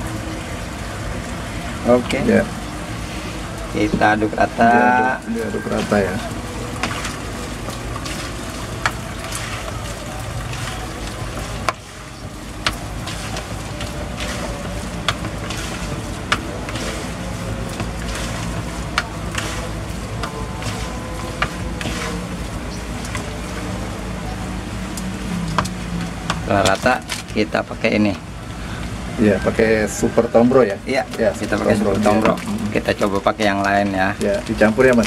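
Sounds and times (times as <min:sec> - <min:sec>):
steady low hum: 0:00.0 - 0:35.0
wet bait being stirred: 0:00.0 - 0:35.0.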